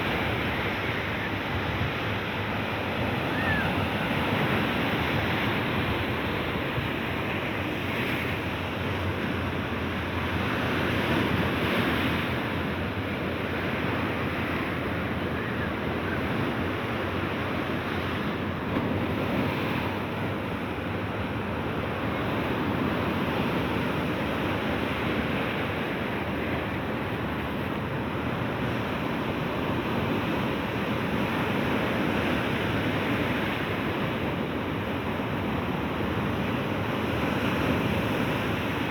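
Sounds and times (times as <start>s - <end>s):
sea waves washing ashore: 0.0s - 38.9s.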